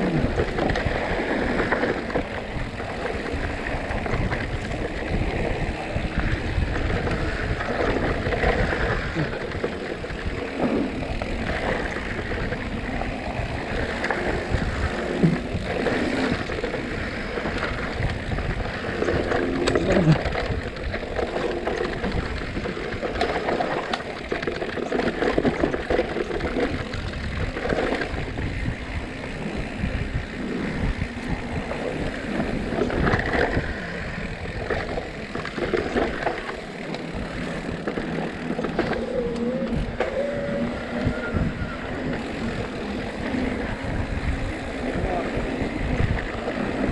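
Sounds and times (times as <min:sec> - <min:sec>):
bike rattling and knocking: 0:00.0 - 0:46.9
wind buffeting microphone: 0:00.0 - 0:46.9.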